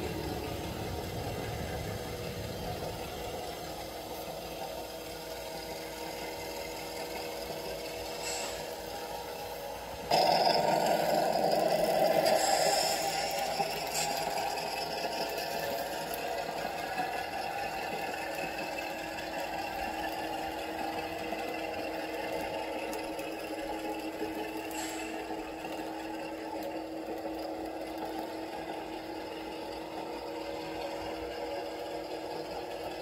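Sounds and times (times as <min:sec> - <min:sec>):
model train motor and wheels whirring: 0:00.0 - 0:33.0.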